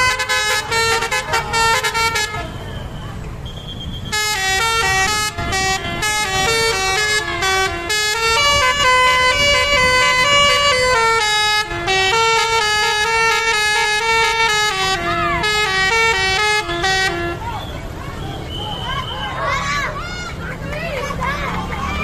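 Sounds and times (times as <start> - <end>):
multi-tone bus horn melody: 0.0 - 3.0, 3.6 - 19.7.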